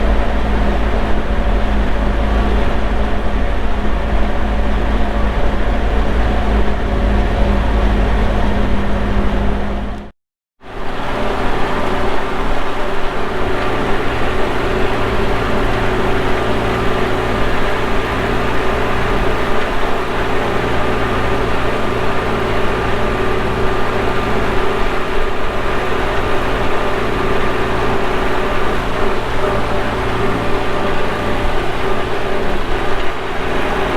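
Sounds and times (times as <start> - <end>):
tractor engine running: 0.0 - 10.1, 10.7 - 33.9.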